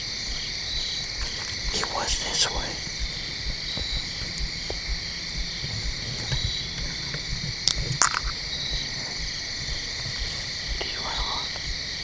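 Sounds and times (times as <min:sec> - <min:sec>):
crickets chirping: 0:00.0 - 0:12.0
low uneven rumble: 0:00.0 - 0:12.0
sharp clicks: 0:00.2 - 0:11.9.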